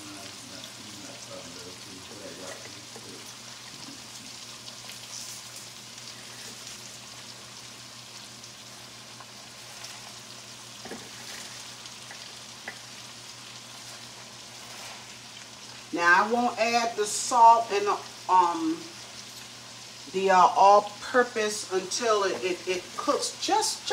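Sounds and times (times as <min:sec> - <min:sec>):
cabbage sizzling in a skillet: 0:00.0 - 0:23.9.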